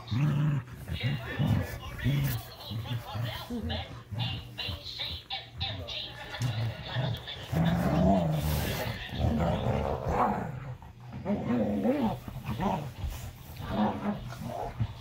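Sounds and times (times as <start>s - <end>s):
dogs play-growling: 0.0s - 15.0s.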